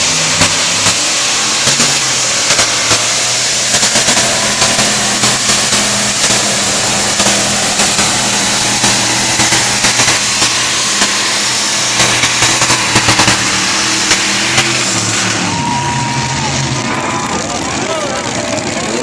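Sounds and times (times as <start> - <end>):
dense hiss: 0.0 - 15.5
engine running loud and hard: 0.0 - 19.0
sharp cracks: 0.0 - 19.0.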